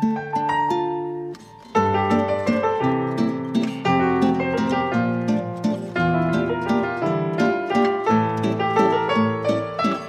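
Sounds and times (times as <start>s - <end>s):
harp-like plucked string music: 0.0s - 10.0s.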